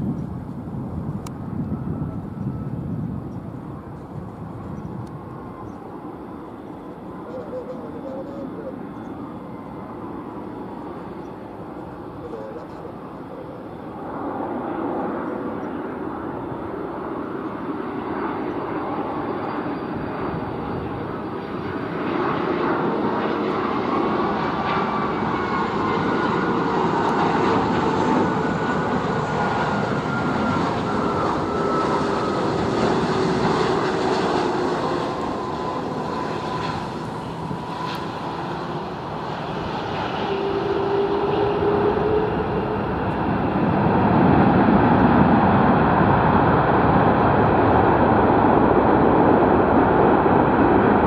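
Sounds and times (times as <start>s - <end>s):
jet airliner passing overhead: 0.0s - 51.0s.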